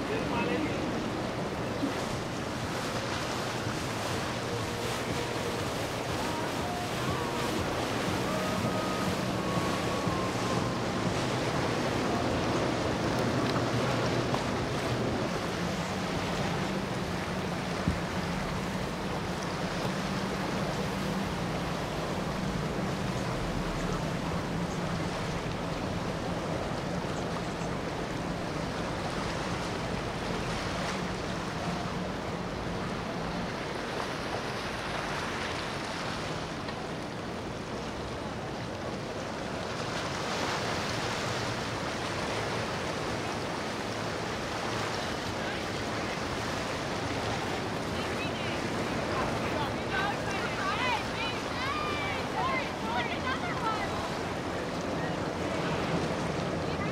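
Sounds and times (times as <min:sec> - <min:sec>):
motorboat engine drone: 0:00.0 - 0:56.9.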